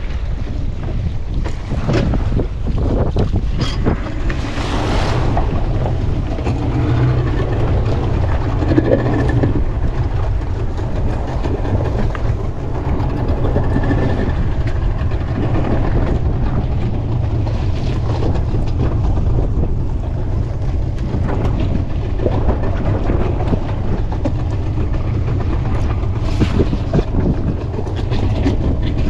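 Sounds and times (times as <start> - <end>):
sea waves: 0.0 - 29.0
wind buffeting microphone: 0.0 - 29.0.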